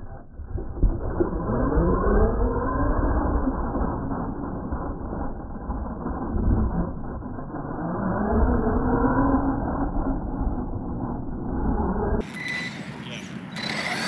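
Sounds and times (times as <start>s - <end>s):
low rumble: 0.0s - 13.1s
electric motor whining: 1.7s - 14.0s.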